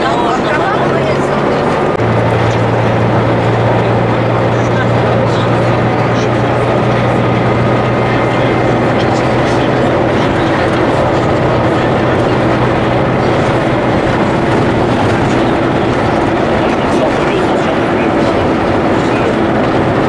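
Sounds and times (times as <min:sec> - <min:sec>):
car engine drone: 0:00.0 - 0:20.0.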